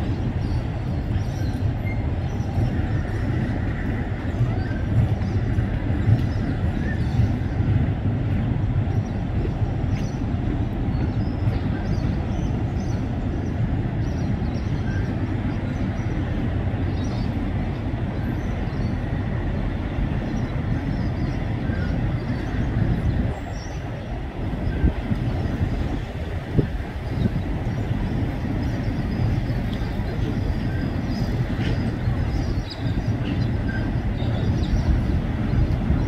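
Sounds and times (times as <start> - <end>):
freight train rumbling on bridge: 0.0 - 36.0.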